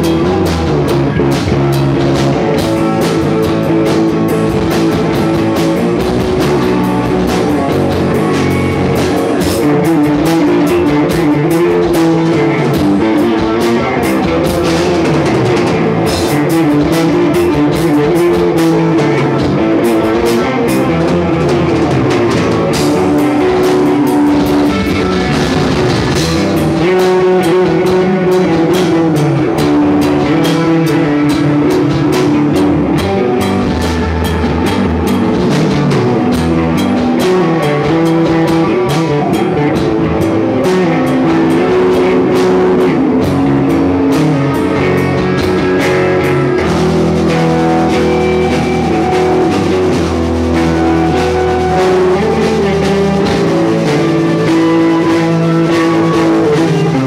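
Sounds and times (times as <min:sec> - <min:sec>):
loud rock music: 0:00.0 - 0:57.0.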